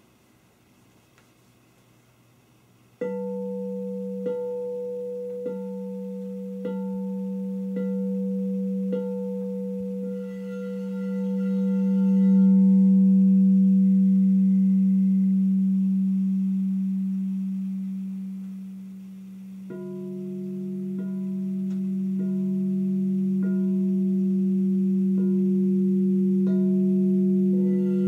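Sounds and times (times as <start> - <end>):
singing bowl struck and ringing: 3.0 - 19.0, 19.6 - 28.0
higher singing bowl tone: 3.0 - 28.0.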